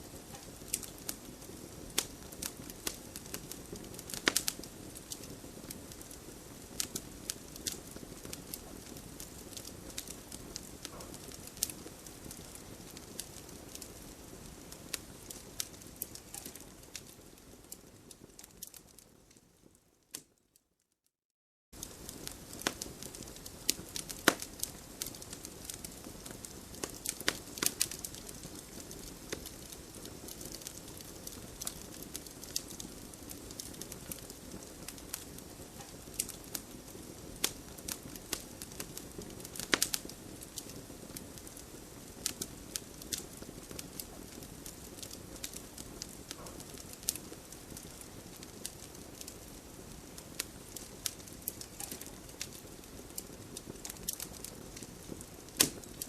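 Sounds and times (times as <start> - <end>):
campfire crackling and popping: 0.0 - 20.4, 21.8 - 56.0.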